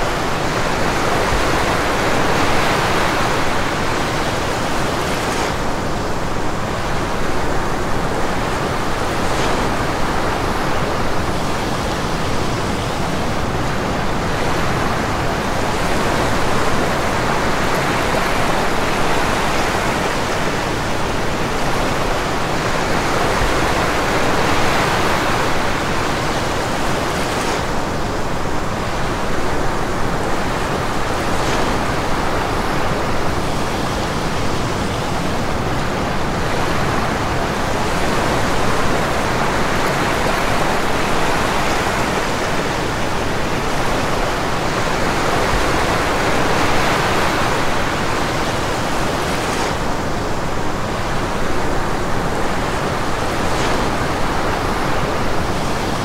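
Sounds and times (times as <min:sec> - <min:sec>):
small waves washing on beach: 0:00.0 - 0:56.0.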